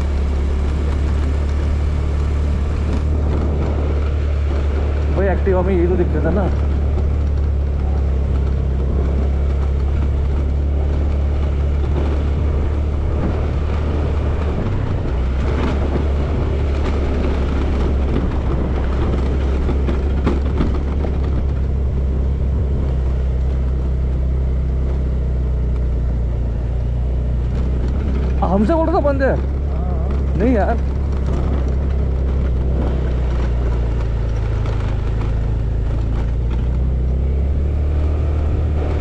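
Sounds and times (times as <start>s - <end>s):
scooter engine under load: 0.0s - 39.0s.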